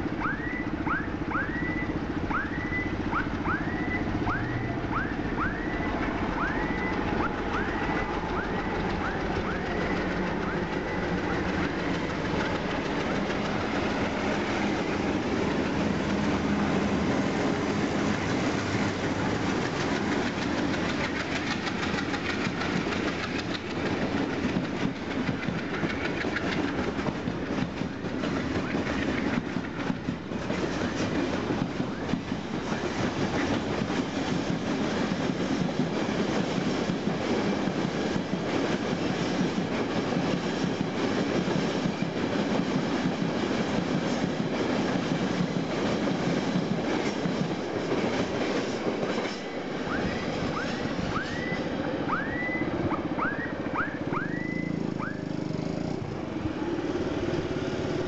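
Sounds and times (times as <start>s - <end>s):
train wheels clattering on track: 0.0s - 58.0s.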